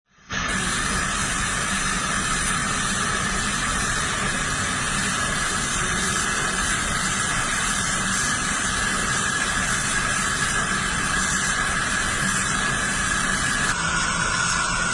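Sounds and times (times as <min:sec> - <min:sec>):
welding arc hissing: 0:00.2 - 0:14.9.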